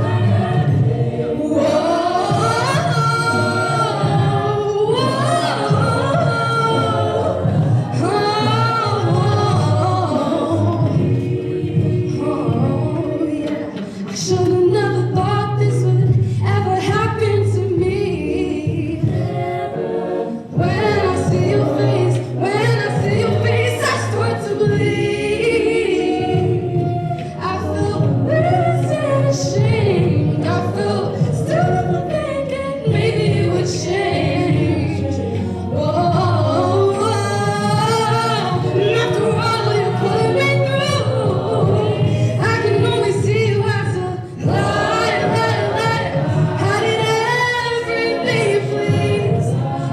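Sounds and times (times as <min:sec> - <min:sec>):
vocal group singing in harmony: 0:00.0 - 0:49.9.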